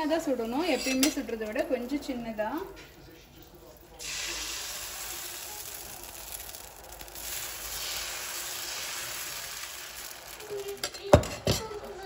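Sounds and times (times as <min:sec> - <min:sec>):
batter sizzling on hot pan: 0:00.0 - 0:12.0.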